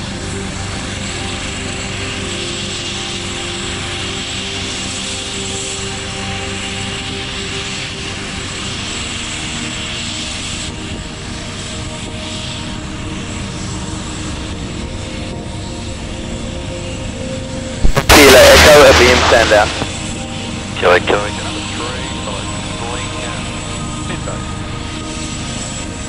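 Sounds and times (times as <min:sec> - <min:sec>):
helicopter rotor hum: 0:00.0 - 0:26.0
helicopter turbine whine: 0:00.0 - 0:26.0.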